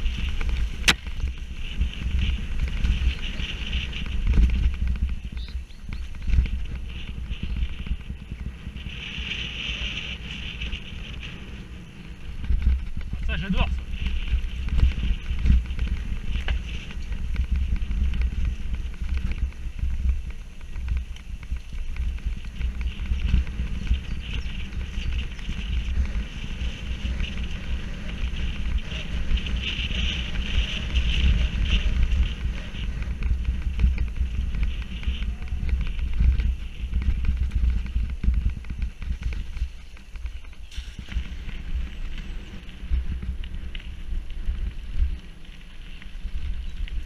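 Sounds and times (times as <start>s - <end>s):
bike rattling over bumps: 0.0s - 47.0s
wind buffeting microphone: 0.0s - 47.0s.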